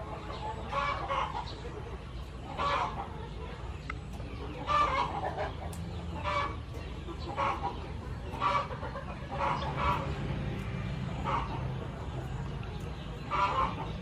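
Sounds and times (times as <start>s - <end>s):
chickens clucking: 0.0s - 14.0s
low steady hum: 0.0s - 14.0s.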